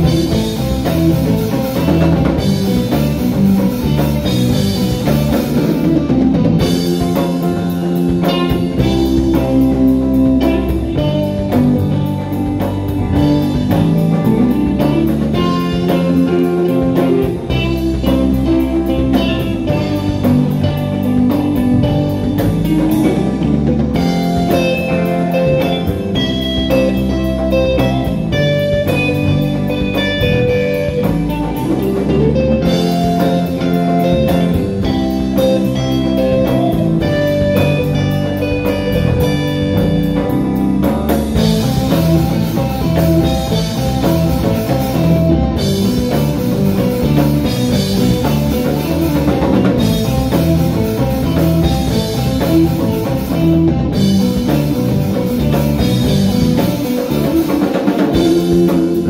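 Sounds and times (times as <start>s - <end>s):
bass guitar: 0.0s - 59.0s
drum kit: 0.0s - 59.0s
electric guitars: 0.0s - 59.0s.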